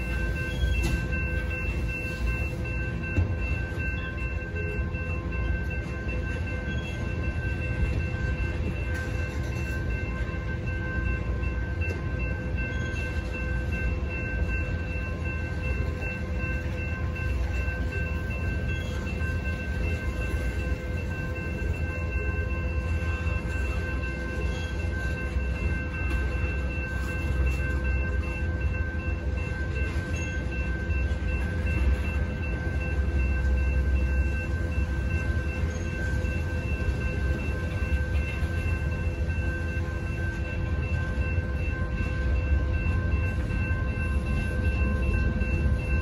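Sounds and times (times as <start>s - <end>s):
high-pitched ringing tones: 0.0s - 46.0s
train wheels rumbling on rail: 0.0s - 46.0s.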